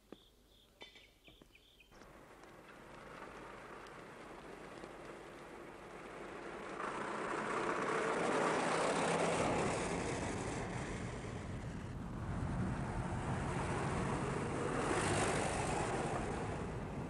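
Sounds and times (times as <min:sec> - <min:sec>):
vehicle driving past: 0:02.0 - 0:17.0.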